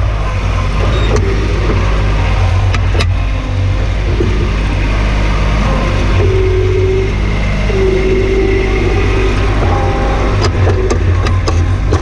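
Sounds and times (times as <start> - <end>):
loader engine running: 0.0 - 12.0.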